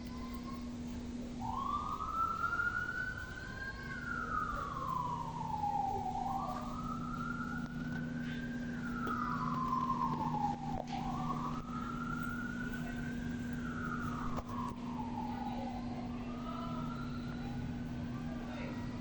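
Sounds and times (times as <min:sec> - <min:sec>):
emergency siren wailing: 0:00.0 - 0:19.0
steady low hum: 0:00.0 - 0:19.0.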